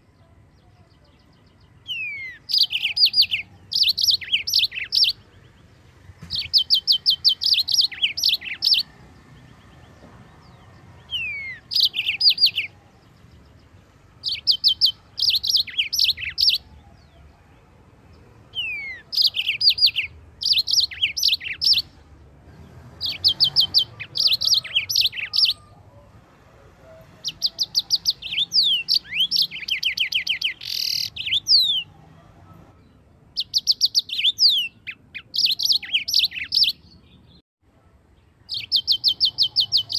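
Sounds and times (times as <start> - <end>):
canary chirps and trills: 0.0 - 39.9.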